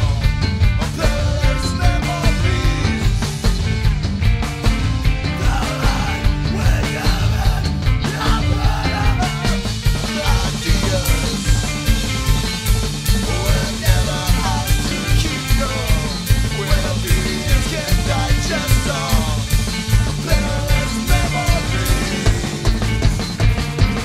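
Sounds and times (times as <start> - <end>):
band music with heavy bass: 0.0 - 24.0.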